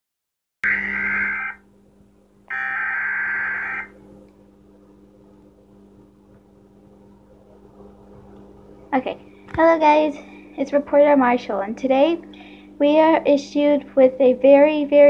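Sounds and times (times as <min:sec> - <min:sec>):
low electrical hum: 0:00.6 - 0:15.0.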